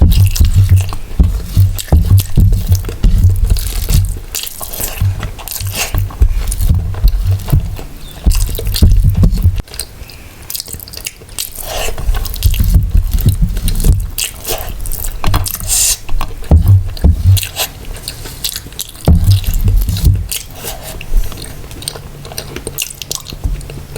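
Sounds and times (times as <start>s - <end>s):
person chewing food: 0.0s - 23.9s.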